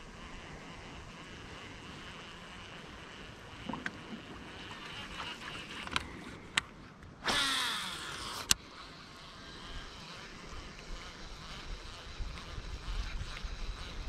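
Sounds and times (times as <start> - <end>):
fishing reel spool whirring: 0.0 - 14.0
reel clicks: 0.0 - 14.0.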